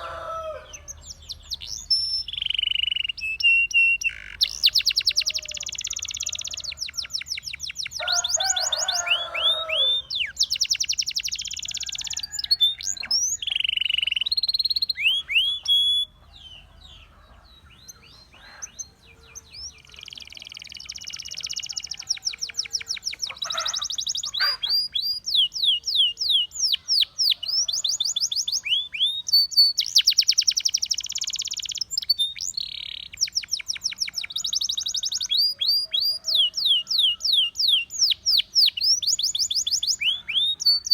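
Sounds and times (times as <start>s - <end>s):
canary singing trills and whistles: 0.0s - 40.9s.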